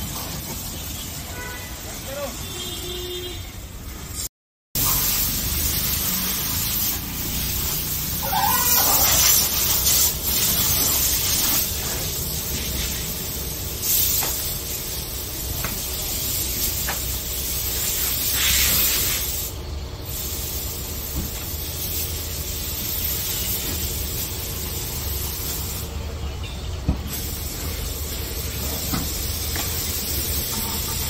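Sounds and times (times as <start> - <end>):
spray gun hissing: 4.8 - 26.0, 27.1 - 31.0.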